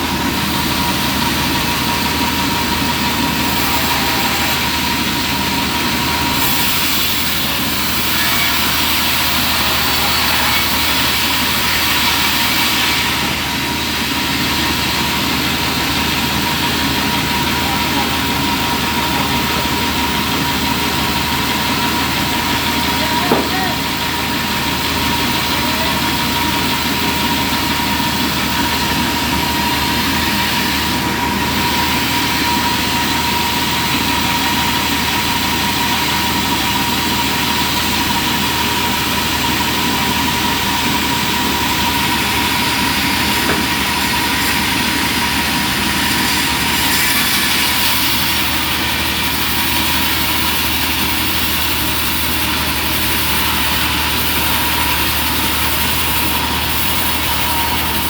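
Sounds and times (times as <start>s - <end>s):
high-pitched saw whine: 0.0s - 58.0s
sawmill machine running: 0.0s - 58.0s.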